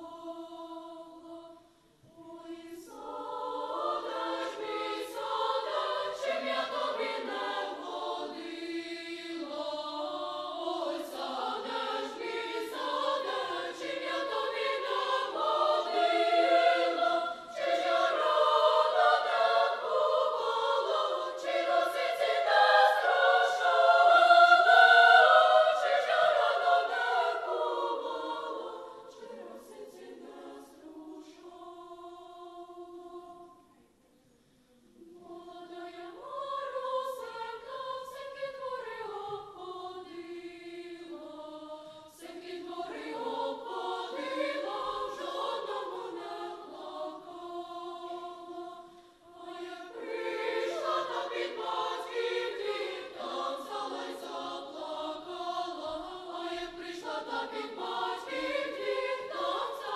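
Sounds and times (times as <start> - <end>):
children's choir singing: 0.0 - 34.0, 34.8 - 59.9.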